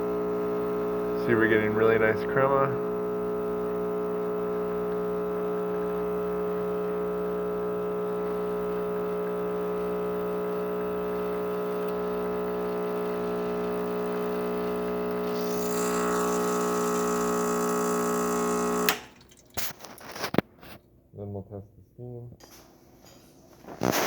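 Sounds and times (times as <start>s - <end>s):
espresso machine pump buzzing: 0.0s - 19.7s.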